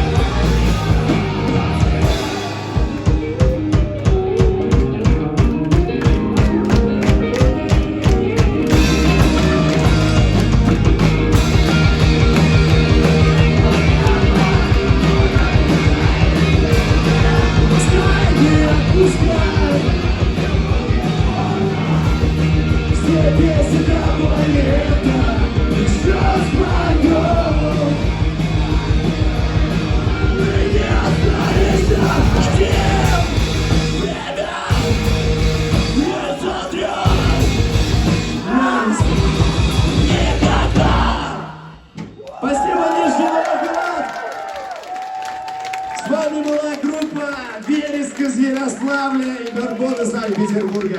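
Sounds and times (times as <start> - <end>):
rock band playing live: 0.0 - 42.2.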